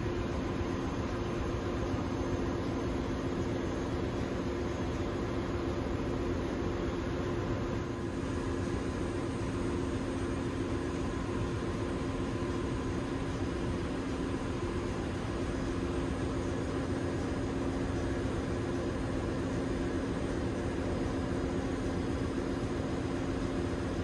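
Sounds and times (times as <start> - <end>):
engine room machinery drone: 0.0 - 24.0.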